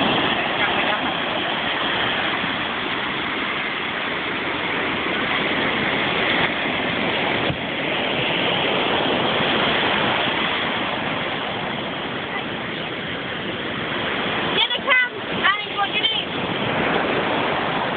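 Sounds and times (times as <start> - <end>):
ocean surf washing: 0.0 - 17.9.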